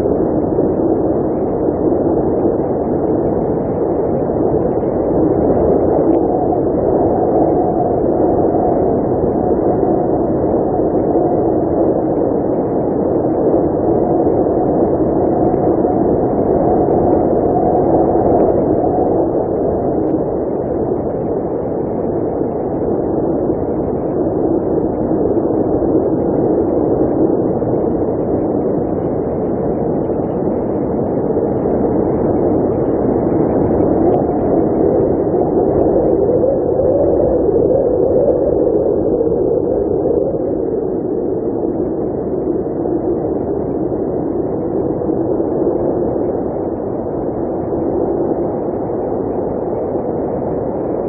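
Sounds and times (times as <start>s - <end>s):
blizzard wind blowing: 0.0s - 51.0s.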